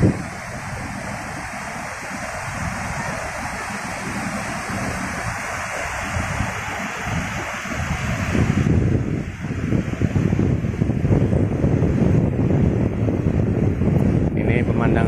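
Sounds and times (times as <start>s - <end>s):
ocean surf washing up beach: 0.0s - 15.0s
wind rumble on microphone: 0.0s - 15.0s.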